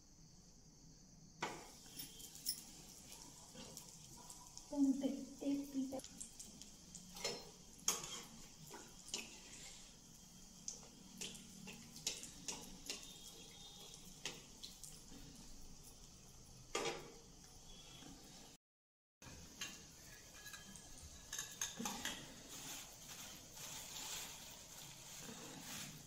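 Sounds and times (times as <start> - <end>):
oil sizzling while deep-frying: 0.3 - 18.6, 19.2 - 26.0.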